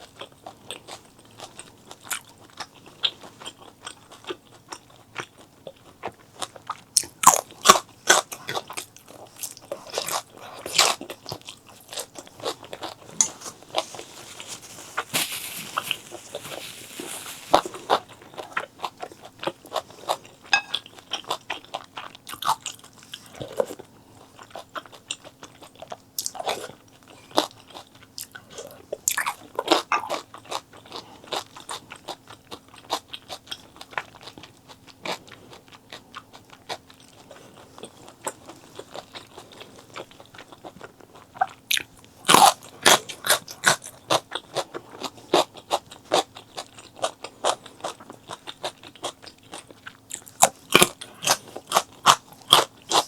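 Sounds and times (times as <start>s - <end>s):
crunchy chewing: 0.0s - 53.0s
faint steady hum: 0.0s - 53.0s.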